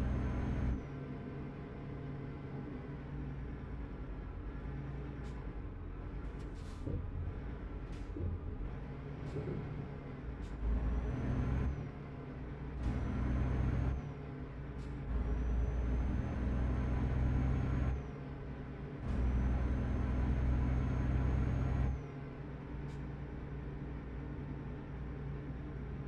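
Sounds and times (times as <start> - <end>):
truck diesel engine accelerating: 0.0 - 26.0.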